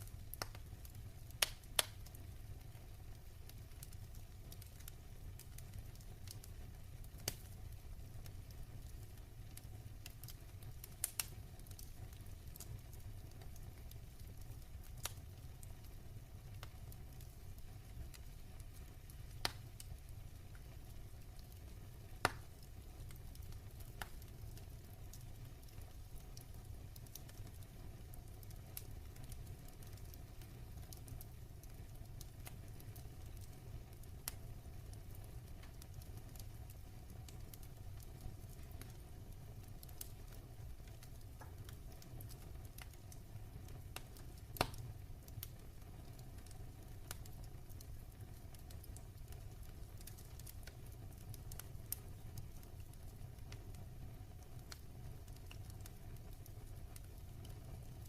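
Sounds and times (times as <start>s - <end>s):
fire crackles and pops: 0.0s - 58.0s
rumble of fire flames: 0.0s - 58.0s.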